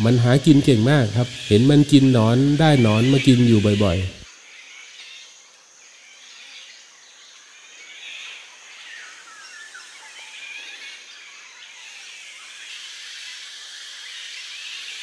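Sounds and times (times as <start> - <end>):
high insect hiss: 0.0 - 15.0
orioles calling: 0.0 - 15.0.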